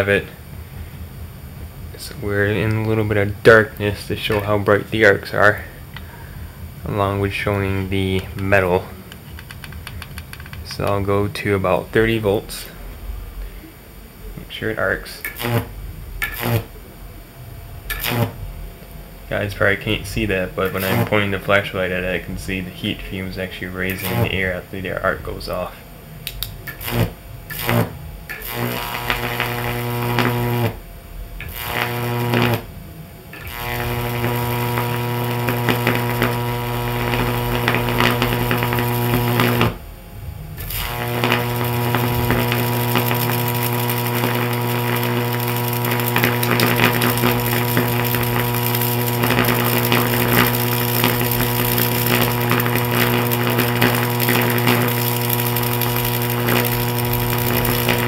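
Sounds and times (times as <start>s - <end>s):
high-voltage arc buzzing and crackling: 0.0s - 58.0s.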